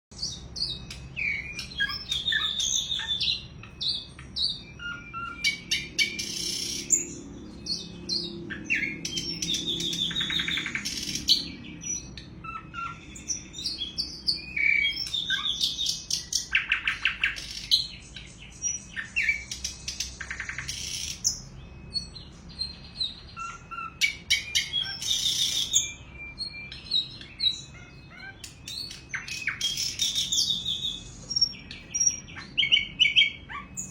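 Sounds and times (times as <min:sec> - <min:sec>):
bird singing high chirps and trills: 0:00.1 - 0:33.9.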